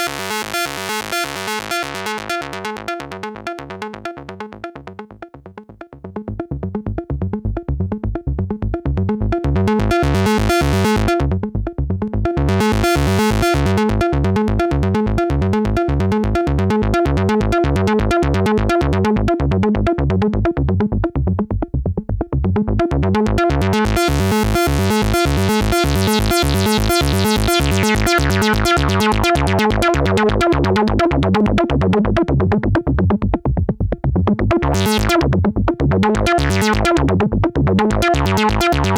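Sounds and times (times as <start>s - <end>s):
synthesizer sequence with filter sweep: 0.0s - 38.9s.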